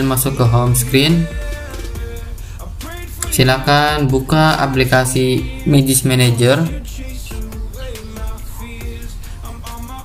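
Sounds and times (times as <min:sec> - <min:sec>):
melody over pulsing beat: 0:00.0 - 0:10.0.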